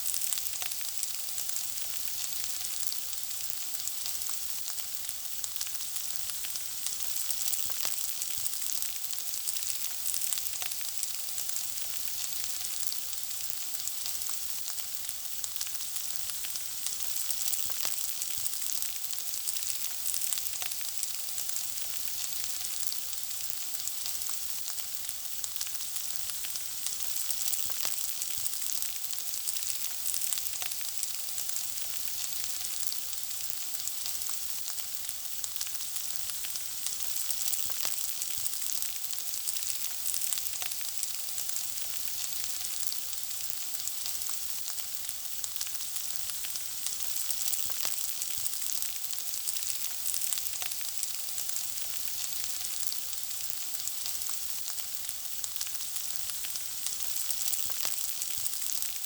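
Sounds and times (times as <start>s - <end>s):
food frying in hot oil: 0.0s - 59.0s.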